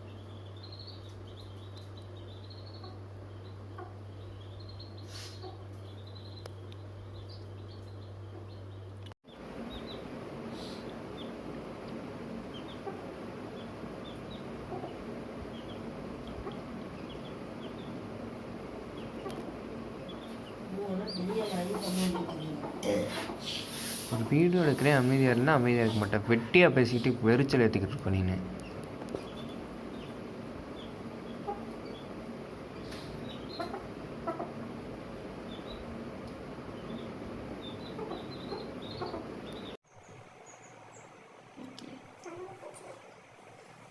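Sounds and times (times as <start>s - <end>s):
chicks peeping: 0.0s - 39.8s
low background noise: 0.0s - 43.9s
steady low hum: 0.0s - 43.9s.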